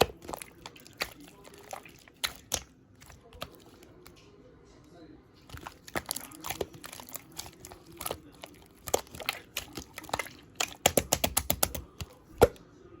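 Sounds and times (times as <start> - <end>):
wet clicks and pops: 0.0 - 4.2, 5.5 - 12.6.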